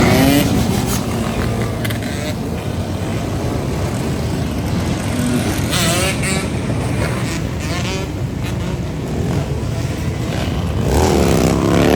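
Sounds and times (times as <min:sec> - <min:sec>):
motorcycle engines revving: 0:00.0 - 0:11.9
motorcycles riding past: 0:00.0 - 0:11.9.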